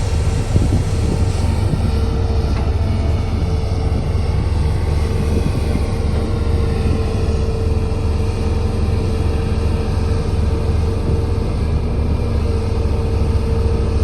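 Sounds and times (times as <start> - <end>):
diesel engine rumble and whine: 0.0 - 14.0.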